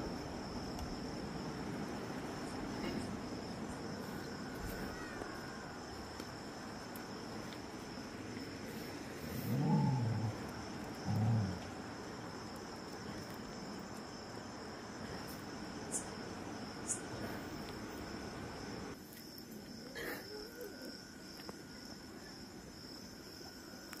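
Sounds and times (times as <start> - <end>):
background hiss: 0.0 - 24.0
crickets chirping: 0.0 - 24.0.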